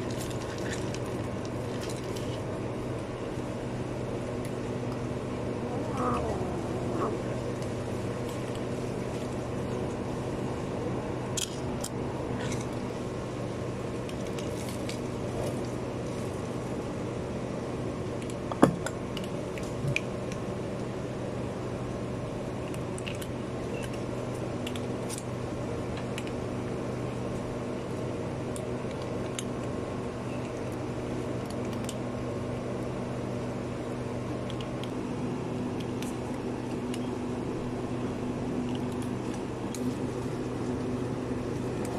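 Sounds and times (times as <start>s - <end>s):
cats crunching dry kibble: 0.0s - 41.9s
steady mechanical hum: 0.0s - 41.9s.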